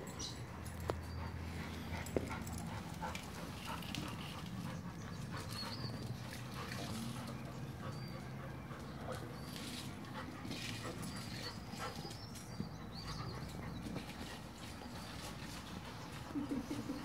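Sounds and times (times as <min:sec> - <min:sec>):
paws scuffling on paving: 0:00.0 - 0:17.0.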